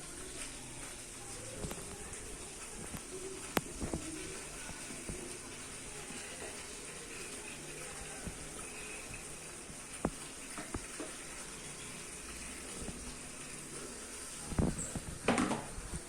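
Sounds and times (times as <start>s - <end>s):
food sizzling and bubbling in pan: 0.0s - 16.0s.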